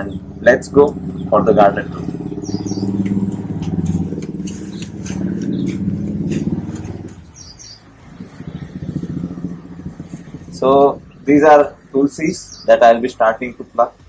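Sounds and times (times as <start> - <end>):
bird chirping: 0.0 - 14.0
vehicle engine running: 0.0 - 14.0.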